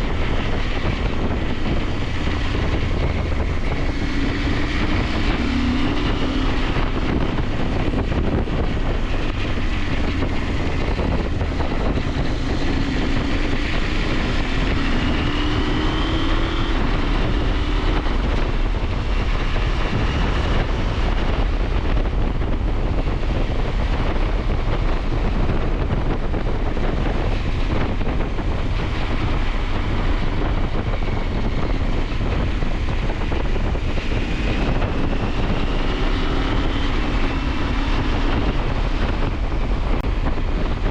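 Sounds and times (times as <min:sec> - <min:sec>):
motorcycle engine accelerating: 0:00.0 - 0:40.9
wind on microphone: 0:00.0 - 0:40.9.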